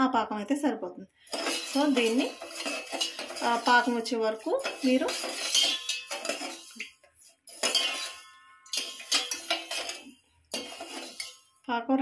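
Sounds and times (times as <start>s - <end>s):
metal spoon scraping a pan: 1.2s - 11.6s.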